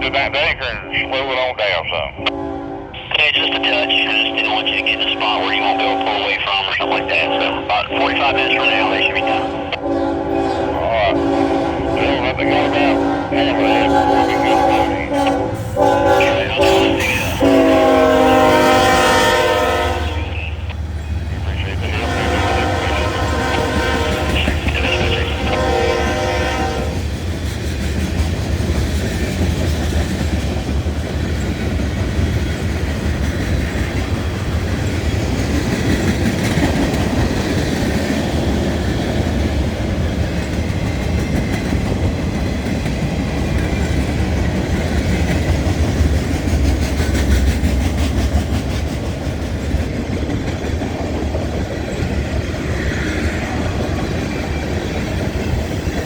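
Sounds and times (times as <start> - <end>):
freight train rolling on rails: 0.0 - 56.0.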